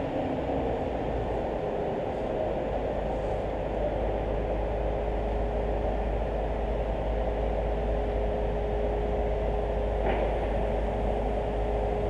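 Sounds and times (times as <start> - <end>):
crane machinery hum: 0.0 - 12.0.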